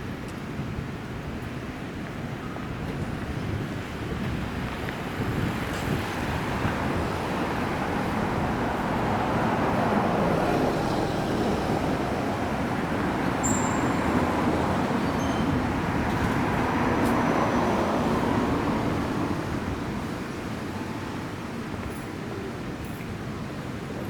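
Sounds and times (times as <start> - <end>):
passing cars: 2.7 - 24.0.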